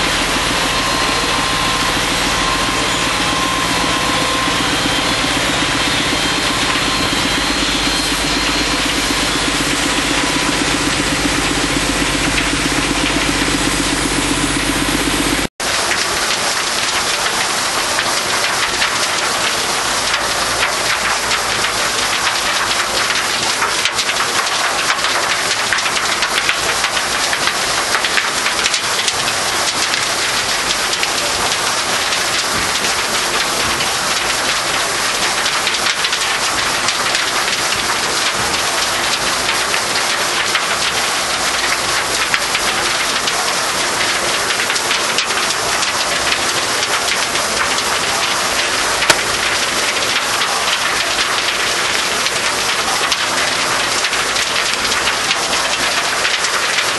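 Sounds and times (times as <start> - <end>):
machine working soil: 0.0 - 56.9.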